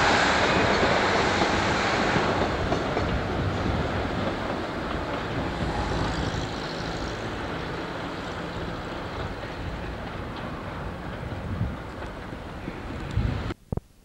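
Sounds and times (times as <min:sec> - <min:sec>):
train engine and wheels rumbling: 0:00.0 - 0:13.6.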